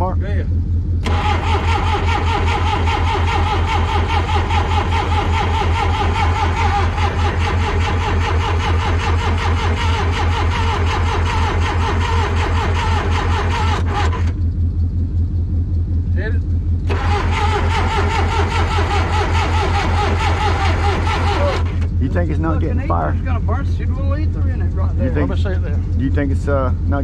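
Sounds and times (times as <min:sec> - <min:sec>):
starter cranking diesel engine: 0:00.0 - 0:27.0.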